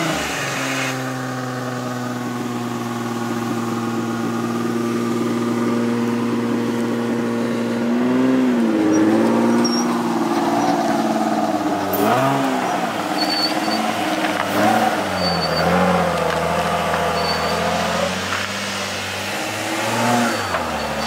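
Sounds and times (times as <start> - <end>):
car engine revving steadily: 0.0 - 21.0.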